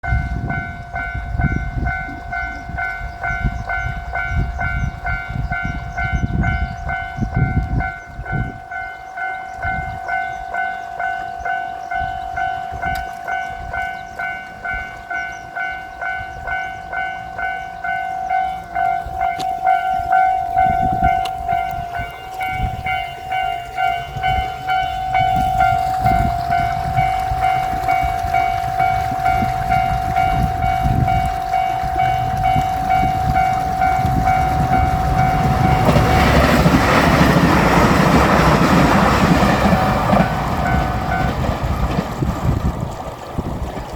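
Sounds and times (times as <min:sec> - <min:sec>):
train rail noise: 0:00.0 - 0:43.9
level crossing bell clanging: 0:00.1 - 0:41.4.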